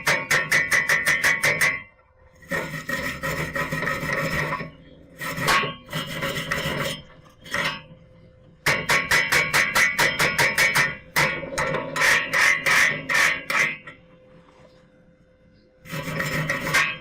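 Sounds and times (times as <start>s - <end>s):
rasping scrubbing on metal: 0.0s - 7.9s, 8.7s - 14.0s, 15.8s - 17.0s.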